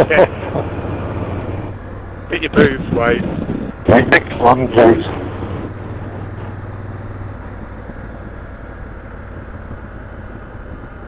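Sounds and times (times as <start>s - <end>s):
low engine hum: 0.0s - 11.0s
motorcycle engine running: 0.0s - 11.0s
wind noise: 0.0s - 11.0s.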